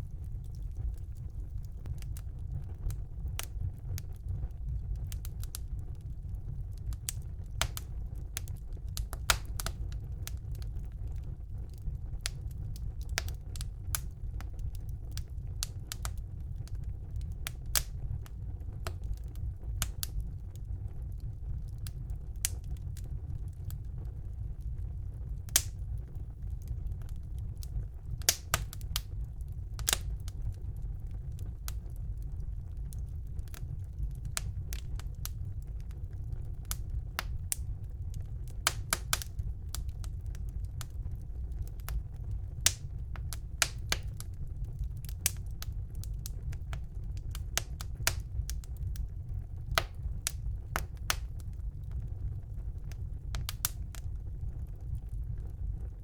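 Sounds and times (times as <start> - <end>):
fire crackling and snapping: 0.0 - 56.0
fire popping: 0.0 - 56.0
fire rumbling: 0.0 - 56.0.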